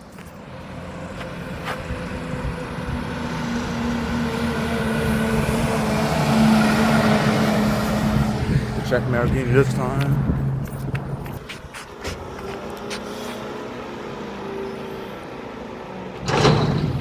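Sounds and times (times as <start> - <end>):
truck diesel engine approaching: 0.4 - 17.0.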